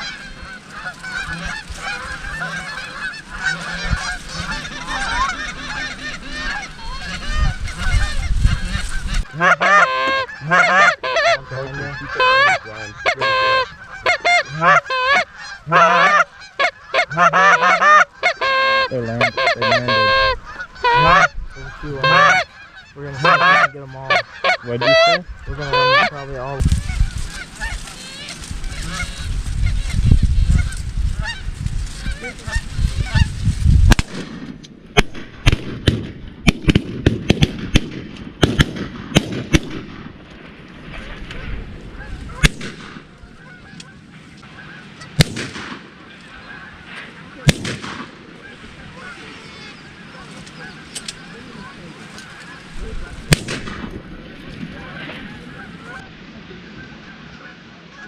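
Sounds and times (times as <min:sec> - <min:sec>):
geese honking: 0:00.0 - 0:37.5, 0:38.4 - 0:58.0.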